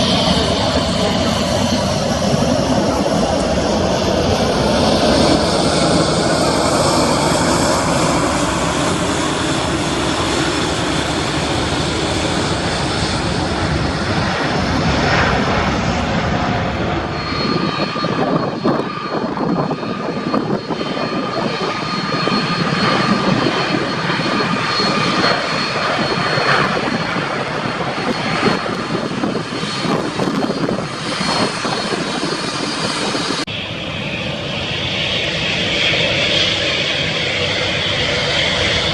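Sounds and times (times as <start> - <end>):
wind buffeting microphone: 0.0 - 33.6
high-pitched engine whine: 0.0 - 38.9
jet engines roaring: 0.0 - 38.9.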